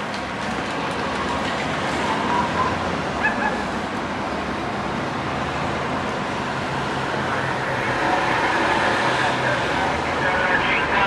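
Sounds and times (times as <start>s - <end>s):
cars driving past: 0.0s - 11.0s.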